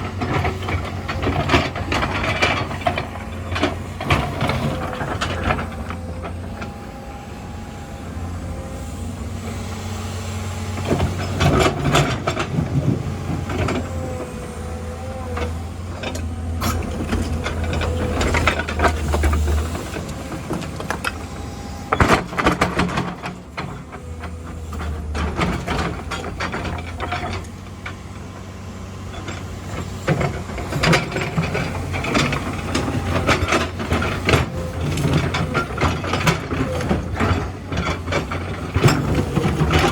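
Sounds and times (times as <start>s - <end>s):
low diesel drone: 0.0s - 39.9s.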